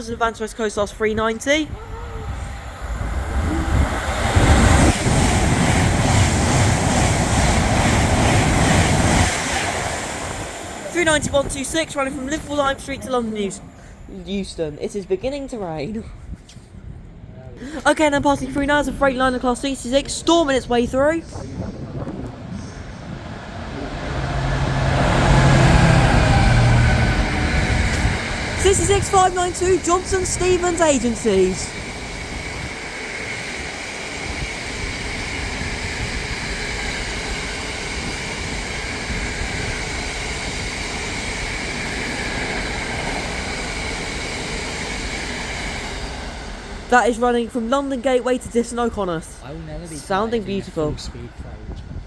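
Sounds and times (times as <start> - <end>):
electric train passing: 0.0 - 16.1, 16.8 - 52.0
diesel locomotive engine drone: 0.0 - 52.0.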